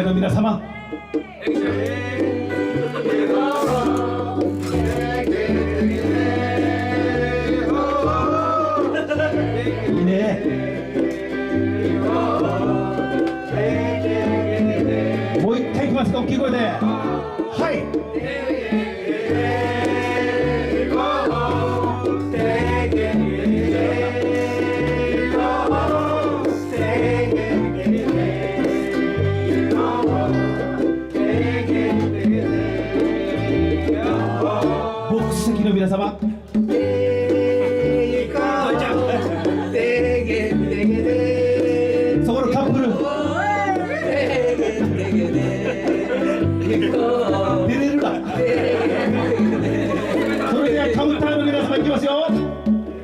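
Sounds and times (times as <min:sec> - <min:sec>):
bass line: 0:00.0 - 0:53.0
live band music: 0:00.0 - 0:53.0
voices singing along: 0:00.7 - 0:51.9.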